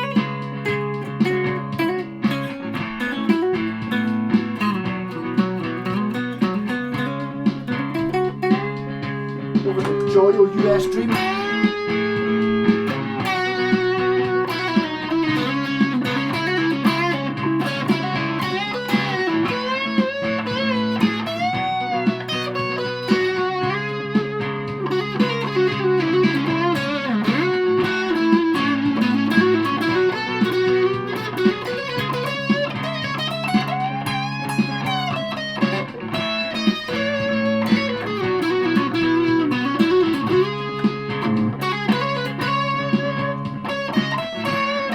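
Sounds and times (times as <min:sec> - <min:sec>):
electric guitar lead line: 0:00.0 - 0:44.9.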